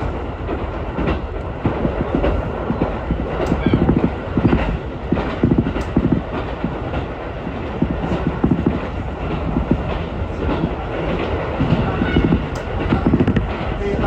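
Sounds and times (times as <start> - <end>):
electric train rumbling: 0.0 - 14.0
wheels clacking over rail joints: 0.0 - 14.0.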